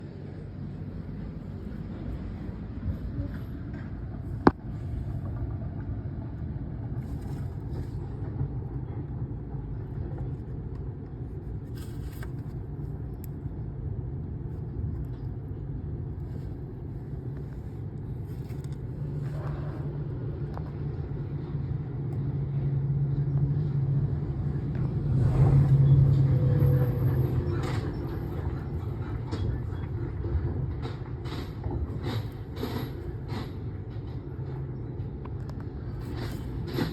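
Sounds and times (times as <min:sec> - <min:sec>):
van engine humming: 0:00.0 - 0:36.9.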